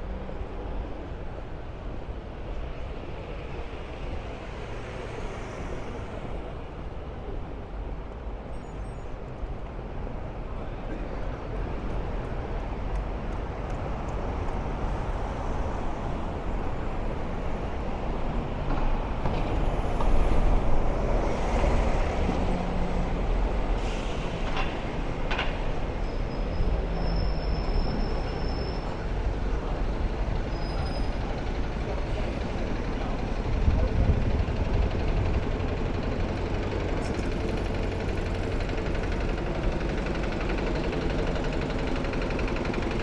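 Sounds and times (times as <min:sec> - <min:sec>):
traffic rumble: 0:00.0 - 0:43.0.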